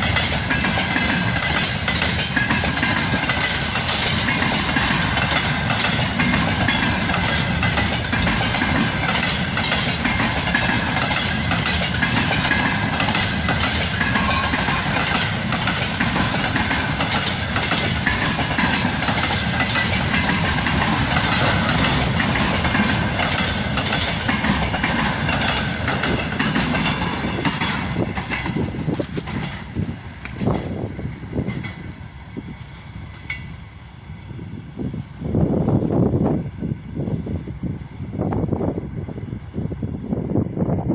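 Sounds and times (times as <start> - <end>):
train wheels clattering over rails: 0.0 - 34.4.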